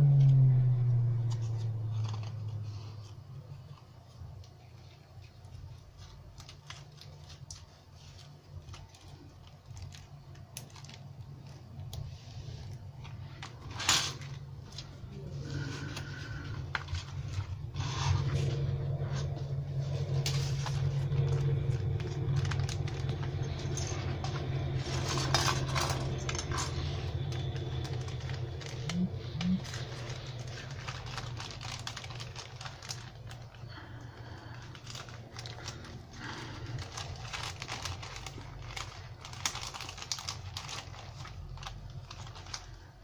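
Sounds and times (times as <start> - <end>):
steady low hum: 0.0 - 43.0
plastic bag crinkling: 0.2 - 43.0.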